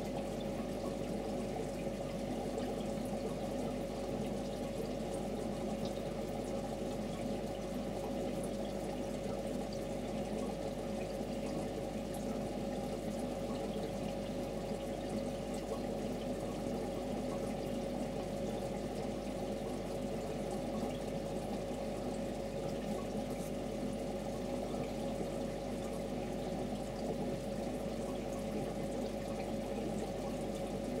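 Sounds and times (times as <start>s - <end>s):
aquarium water trickling: 0.0s - 31.0s.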